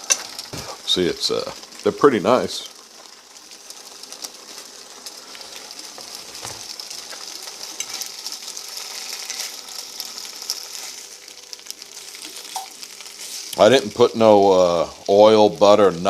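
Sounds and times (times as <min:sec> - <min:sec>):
meat sizzling in a dry pan: 0:00.0 - 0:16.0.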